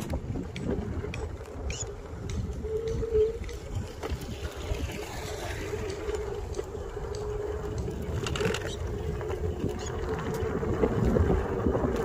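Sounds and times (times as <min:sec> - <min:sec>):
small rattles and clicks: 0:00.0 - 0:11.2.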